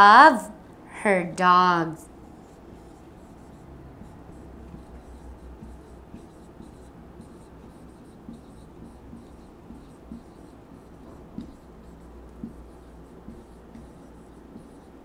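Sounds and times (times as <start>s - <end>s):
low steady hum: 0.0s - 15.0s
marker writing on whiteboard: 1.5s - 15.0s.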